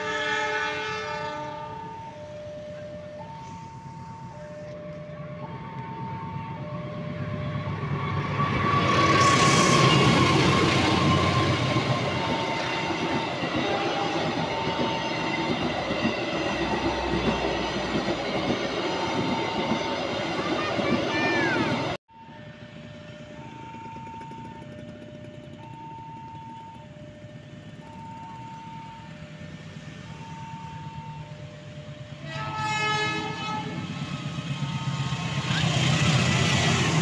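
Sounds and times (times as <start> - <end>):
diesel locomotive passing: 0.0 - 37.0
two-tone crossing warning alarm: 0.0 - 37.0.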